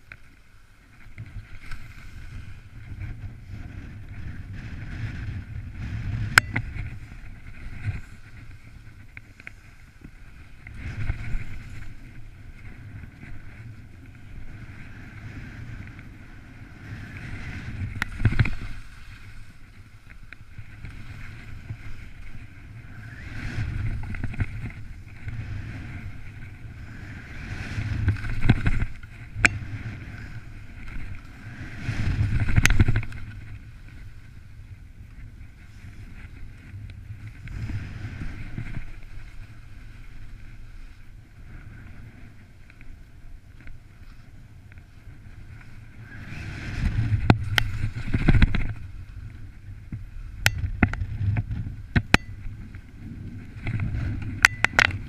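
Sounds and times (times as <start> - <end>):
skis scraping over hard snow: 0.2 - 55.0
wind buffeting microphone: 0.9 - 55.0.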